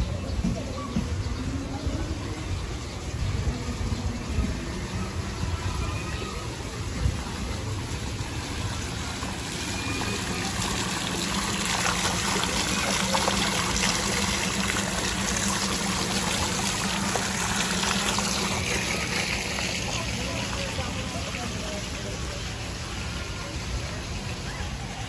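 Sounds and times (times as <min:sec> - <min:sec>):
fountain water splashing into basin: 0:00.1 - 0:25.0.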